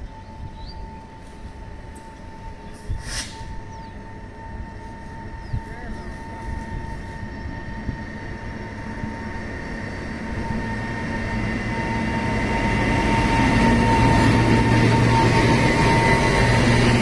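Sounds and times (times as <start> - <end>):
freight train rumble: 0.0 - 17.0
high train whine: 0.0 - 17.0.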